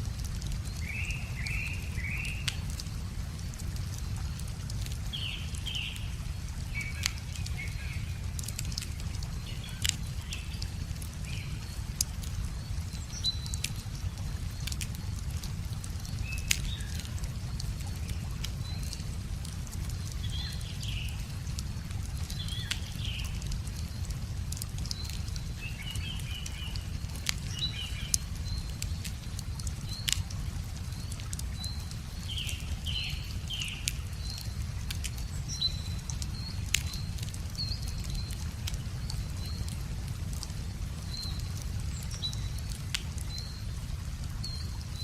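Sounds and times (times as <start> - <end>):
small birds chirping: 0.0 - 45.0
wood fire crackling: 0.0 - 45.0.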